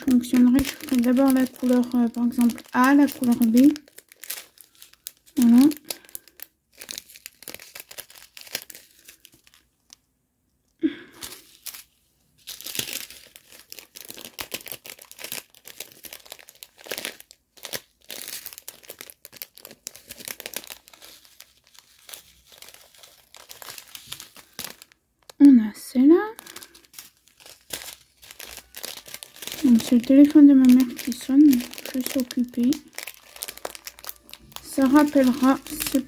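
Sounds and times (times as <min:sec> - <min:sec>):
plastic bags crinkling: 0:00.0 - 0:10.0, 0:10.8 - 0:36.0.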